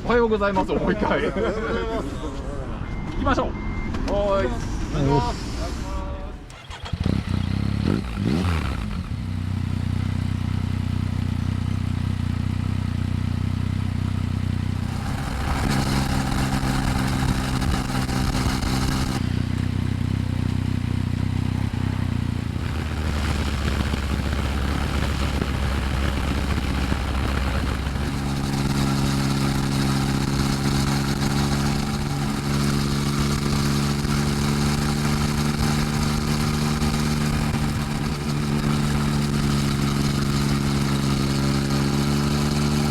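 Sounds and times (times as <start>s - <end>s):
motorcycle exhaust drone: 6.4s - 42.9s.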